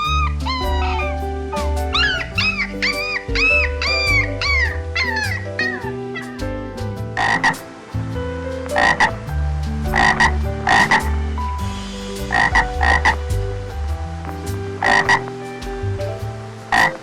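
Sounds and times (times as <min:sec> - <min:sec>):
background music with bass line: 0:00.0 - 0:17.0.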